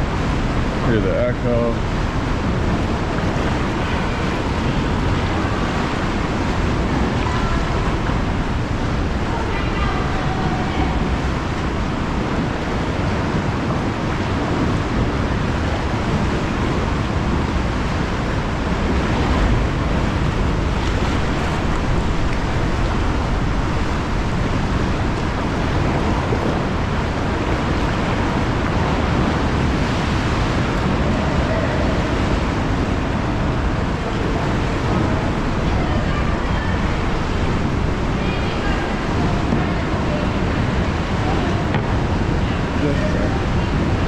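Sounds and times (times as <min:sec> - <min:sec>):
waves crashing in sea cave: 0:00.0 - 0:44.0.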